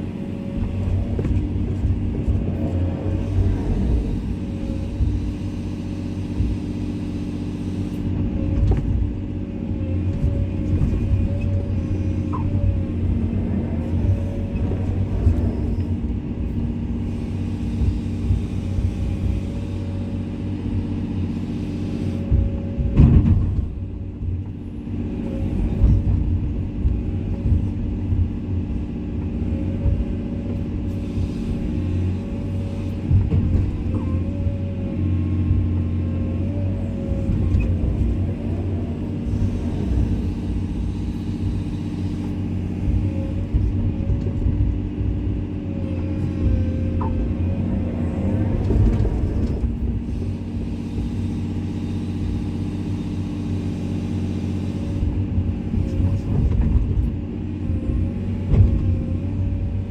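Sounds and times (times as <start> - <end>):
excavator diesel engine running: 0.0 - 59.9
clunks and knocks: 0.2 - 6.8, 8.0 - 20.0, 22.0 - 51.2, 54.8 - 59.8.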